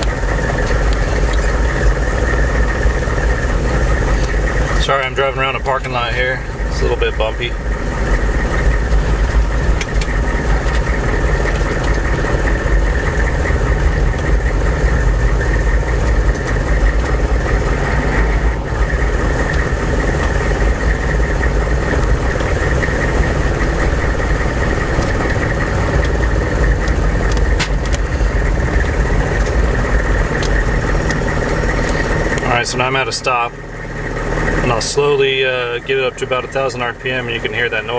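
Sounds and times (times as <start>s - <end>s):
diesel engine rumble: 0.0s - 37.9s.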